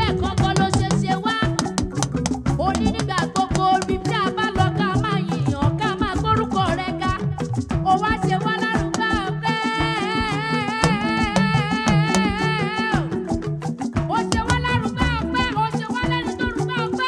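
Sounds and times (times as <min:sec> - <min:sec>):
upbeat gospel music: 0:00.0 - 0:17.0.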